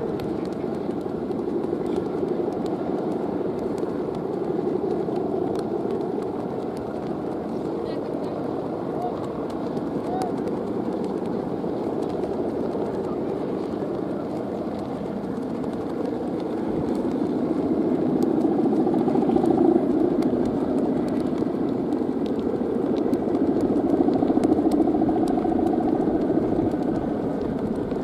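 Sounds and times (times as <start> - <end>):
kite hummers buzzing drone: 0.0 - 28.0.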